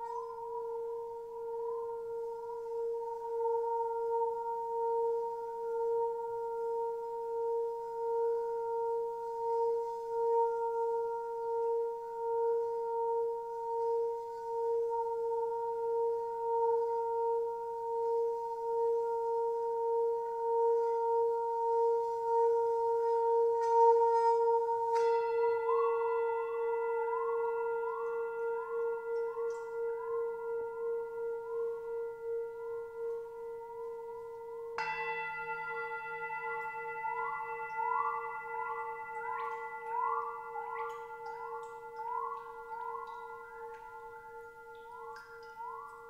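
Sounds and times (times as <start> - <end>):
sustained ringing tone: 0.0 - 46.0.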